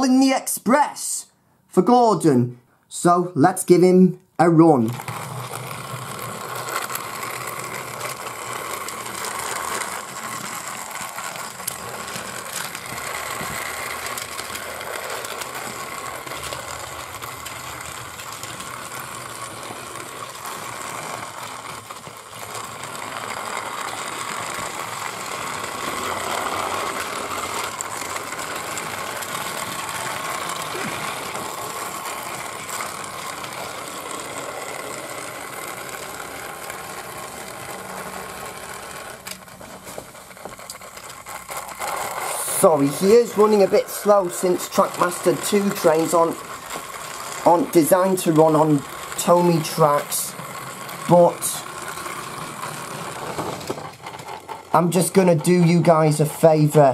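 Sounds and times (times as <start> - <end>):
toy train motor whirring: 4.7 - 56.9.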